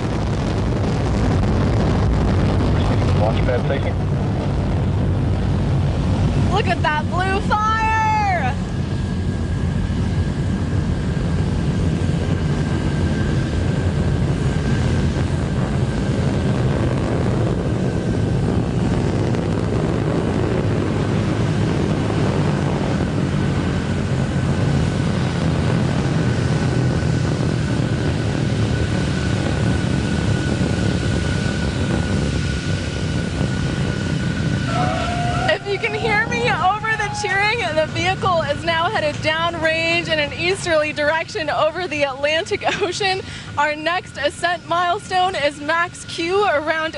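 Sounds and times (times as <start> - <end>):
rocket engines rumbling: 0.0 - 46.9.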